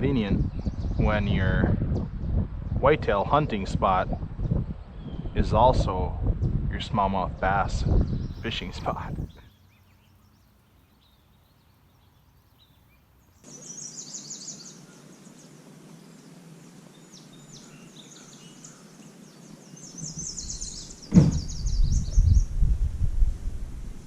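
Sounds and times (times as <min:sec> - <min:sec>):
birds chirping and trilling: 0:00.0 - 0:22.7
steady outdoor hiss: 0:00.0 - 0:24.0.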